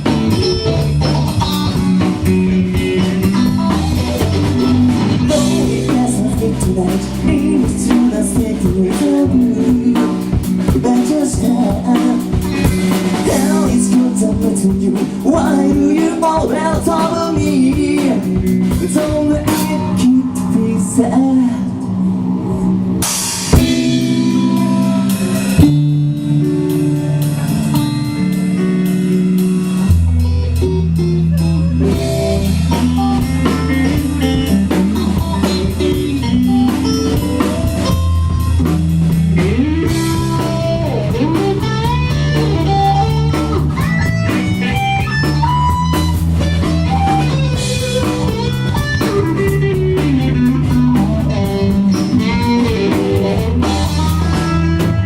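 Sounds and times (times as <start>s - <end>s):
bass guitar: 0.0s - 55.0s
drum kit: 0.0s - 55.0s
electric guitar chords: 0.0s - 55.0s
lead guitar bending notes: 0.0s - 55.0s.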